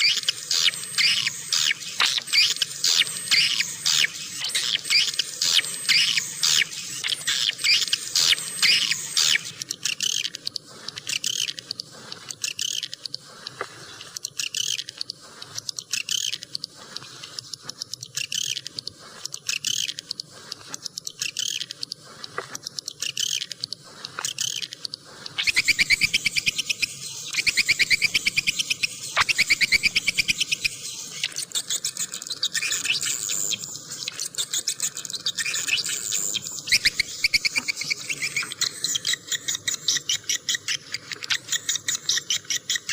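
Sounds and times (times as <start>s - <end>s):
swiftlets chirping and trilling: 0.0s - 16.5s, 22.9s - 42.9s.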